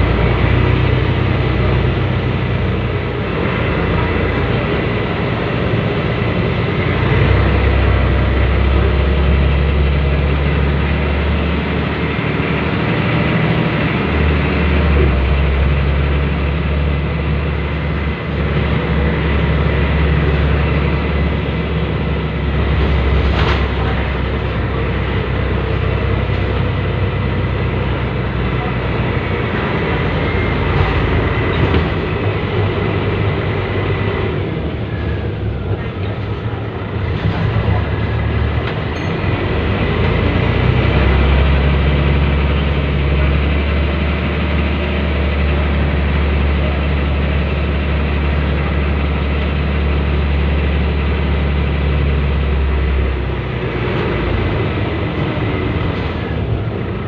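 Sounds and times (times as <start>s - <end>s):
diesel bus engine drone: 0.0s - 57.0s.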